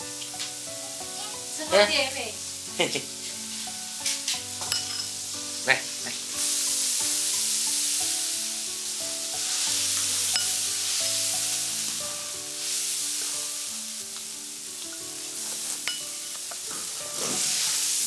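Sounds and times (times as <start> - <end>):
background music: 0.0 - 18.0
broth boiling with sizzling hiss: 0.0 - 18.0.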